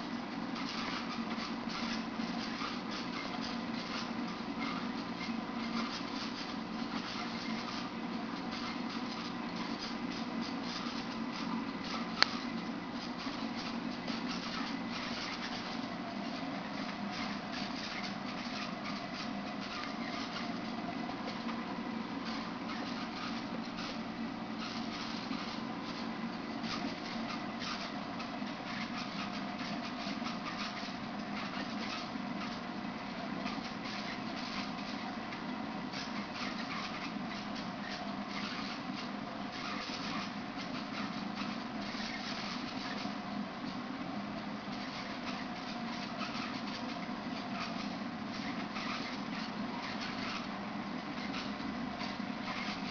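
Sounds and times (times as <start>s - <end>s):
aquarium pump humming: 0.0s - 52.9s.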